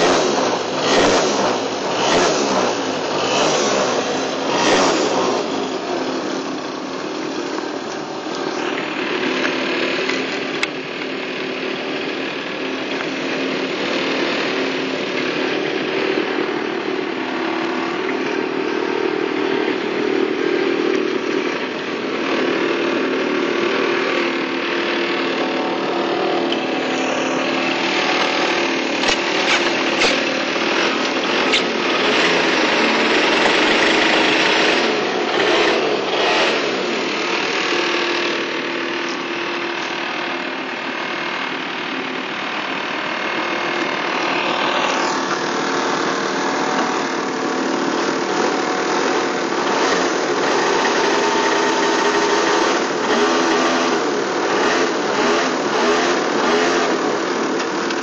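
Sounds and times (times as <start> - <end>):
scooter engine idling: 0.0 - 58.0.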